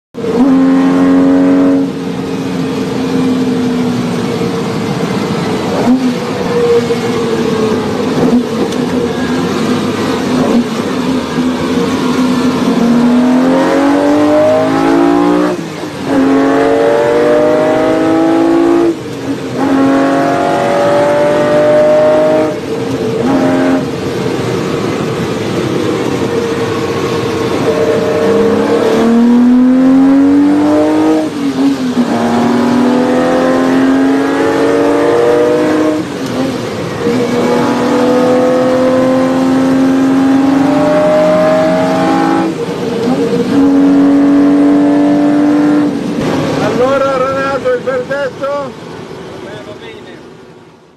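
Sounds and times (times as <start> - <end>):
car engine accelerating through gears: 0.2 - 49.9.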